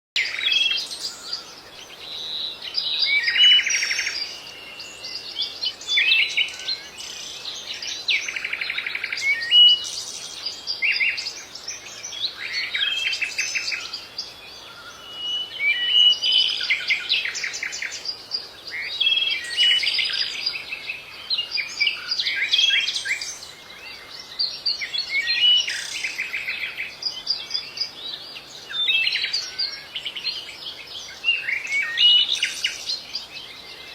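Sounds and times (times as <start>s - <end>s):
finches twittering and trilling: 0.3s - 33.9s.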